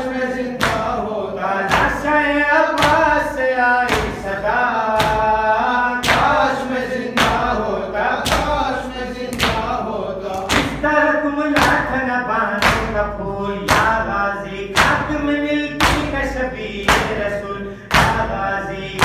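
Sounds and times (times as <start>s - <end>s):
chest-beating slaps in unison: 0.0s - 10.9s, 11.5s - 14.1s, 14.7s - 19.0s.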